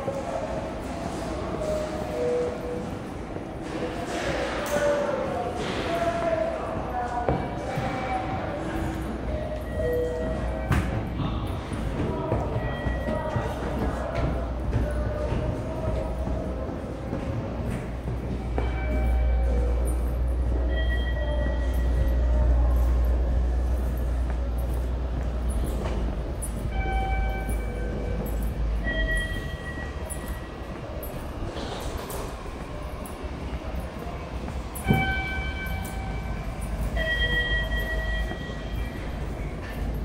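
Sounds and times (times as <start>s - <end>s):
train rumbling past: 0.0s - 40.0s.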